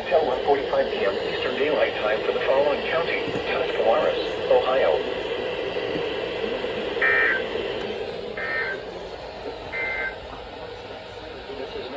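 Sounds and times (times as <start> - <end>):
radio hiss: 0.0 - 11.9.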